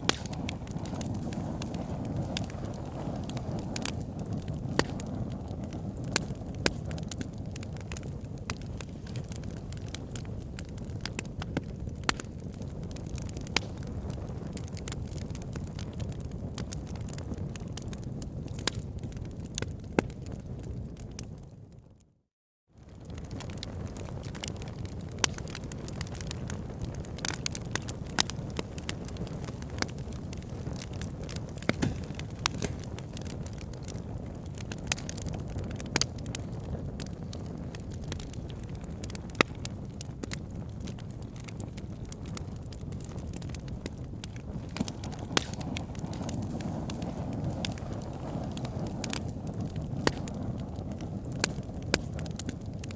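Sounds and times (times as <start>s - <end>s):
loud fire pops: 0.0s - 21.3s, 22.8s - 52.9s
wood fire crackling: 0.0s - 21.5s, 22.8s - 52.9s
low rumble of flames: 0.0s - 22.1s, 22.7s - 52.9s.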